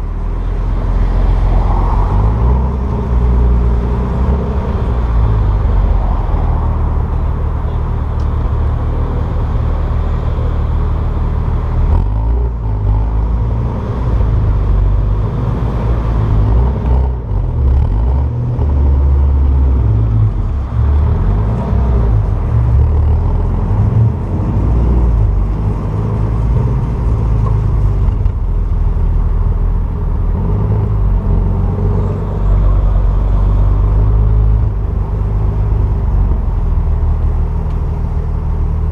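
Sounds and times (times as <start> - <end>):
car exhaust rumbling at low revs: 0.0 - 38.9.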